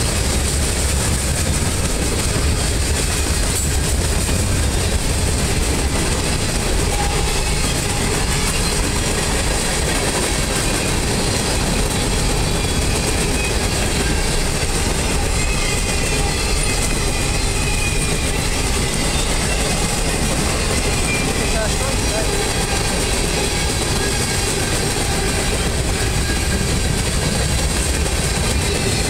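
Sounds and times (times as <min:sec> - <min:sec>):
freight train rolling past: 0:00.0 - 0:29.0
steel wheels rumbling on rail: 0:00.0 - 0:29.0.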